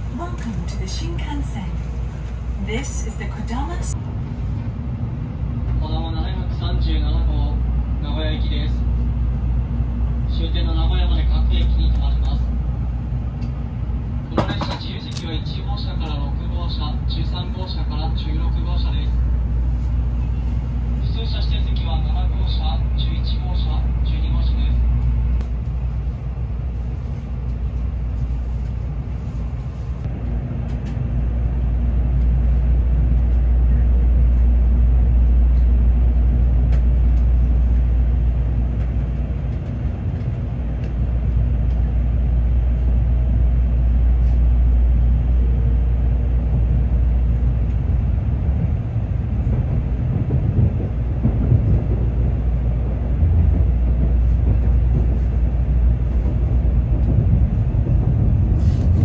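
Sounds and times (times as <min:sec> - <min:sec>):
train running low rumble: 0:00.0 - 0:59.0.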